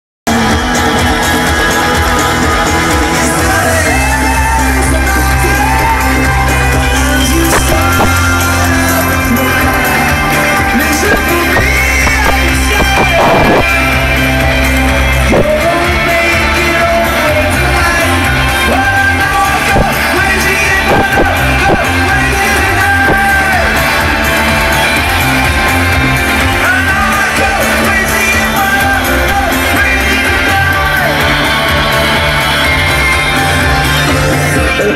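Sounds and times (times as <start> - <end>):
live rock band playing: 0.3 - 34.9
person singing: 0.3 - 34.9.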